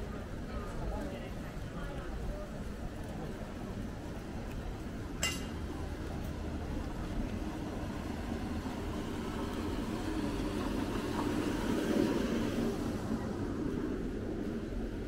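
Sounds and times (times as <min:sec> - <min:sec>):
city background rumble: 0:00.0 - 0:15.0.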